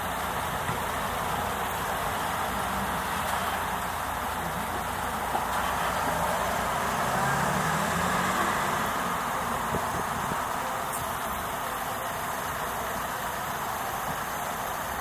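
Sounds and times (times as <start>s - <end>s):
traffic noise: 0.0s - 15.0s
vehicle engine droning: 0.0s - 15.0s.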